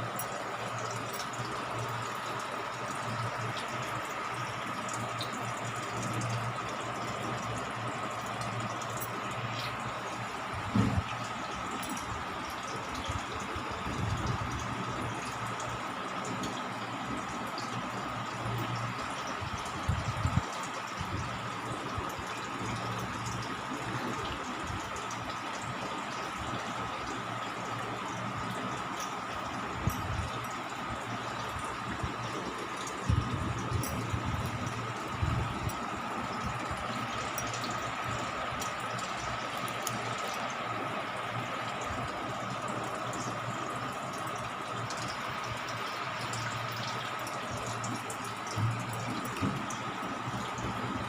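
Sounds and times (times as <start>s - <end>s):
aquarium water bubbling: 0.0s - 51.0s
low pump hum: 0.0s - 51.0s.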